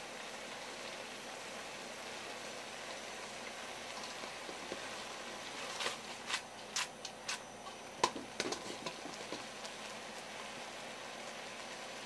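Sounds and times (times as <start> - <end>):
sauce simmering hiss: 0.0 - 12.0.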